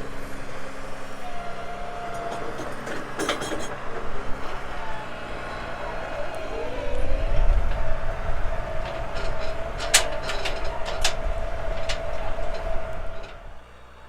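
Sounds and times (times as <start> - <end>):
vehicle rumble with whine: 0.0 - 14.0
metallic clanks and rattles: 2.0 - 13.5.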